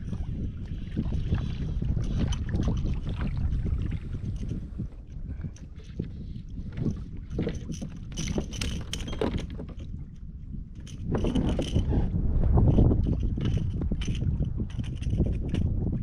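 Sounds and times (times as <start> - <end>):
water slapping against hull: 0.0 - 16.0
wind on microphone: 0.0 - 16.0.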